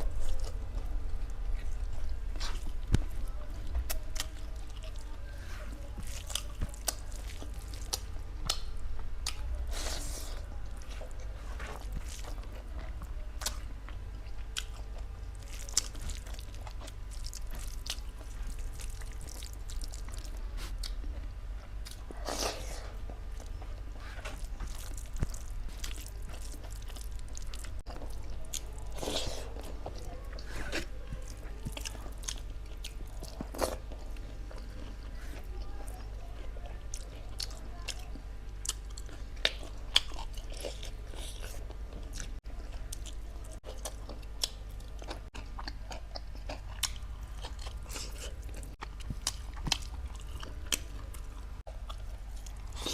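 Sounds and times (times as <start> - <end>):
person chewing meat: 0.0 - 52.9
steady low hum: 0.0 - 52.9.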